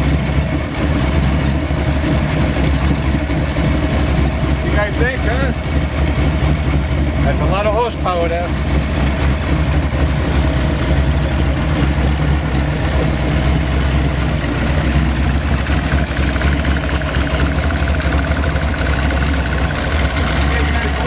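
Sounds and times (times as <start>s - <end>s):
racing engine idling: 0.0s - 21.0s.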